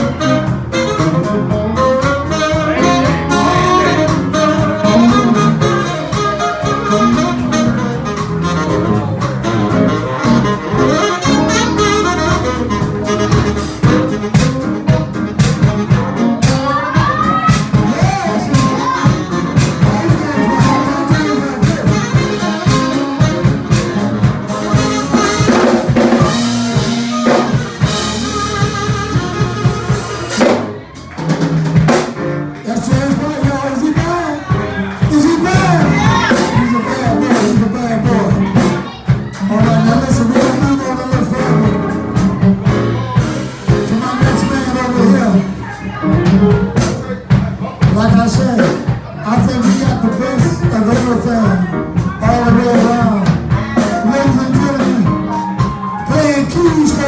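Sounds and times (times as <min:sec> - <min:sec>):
bass drum: 0:00.0 - 0:57.0
live soul band playing: 0:00.0 - 0:57.0.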